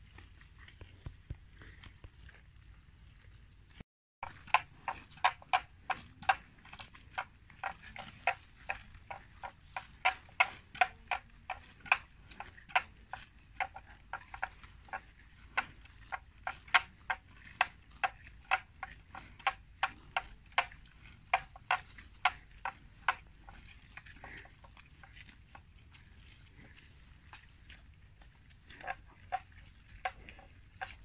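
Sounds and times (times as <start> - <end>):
water buffalo chewing plants: 0.0 - 31.0.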